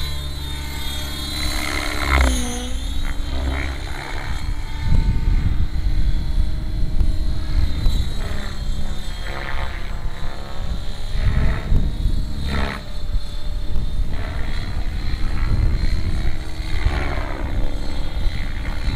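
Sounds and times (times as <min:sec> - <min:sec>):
rc helicopter rotor whine: 0:00.0 - 0:18.9.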